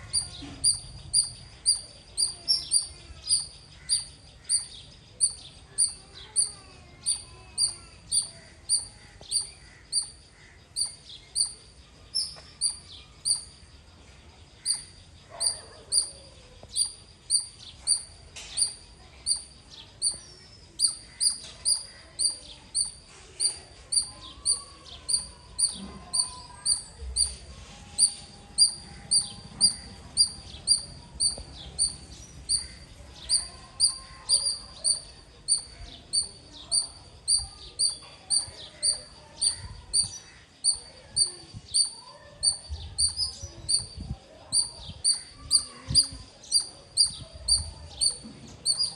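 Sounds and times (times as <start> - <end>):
squirrel chirping: 0.0 - 48.9.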